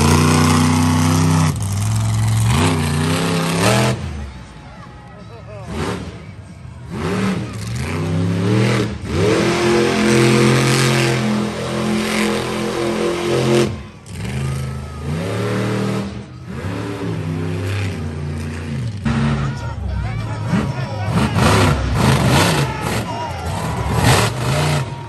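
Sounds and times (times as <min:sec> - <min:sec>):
monster truck engine revving: 0:00.0 - 0:04.5, 0:05.6 - 0:25.0.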